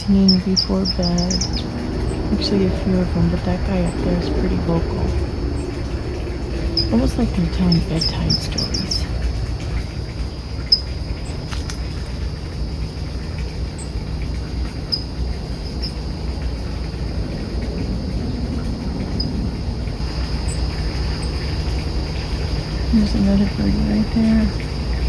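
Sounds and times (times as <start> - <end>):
low background rumble: 0.0 - 25.0
songbirds chirping: 0.0 - 25.0.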